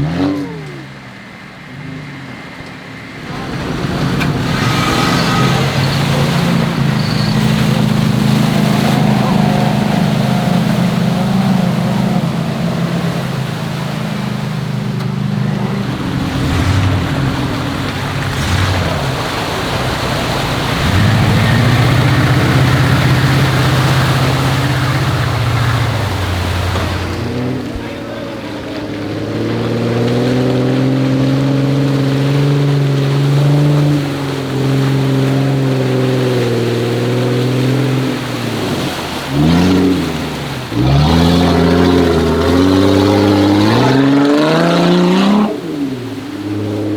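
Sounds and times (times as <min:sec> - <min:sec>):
car engine revving under load: 0:00.0 - 0:46.9
water rushing: 0:00.0 - 0:46.9.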